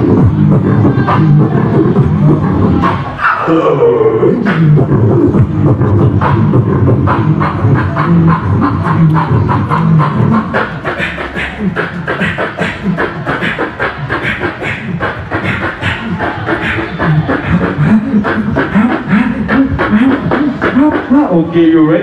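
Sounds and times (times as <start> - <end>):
beatboxing through a microphone: 0.0 - 22.0.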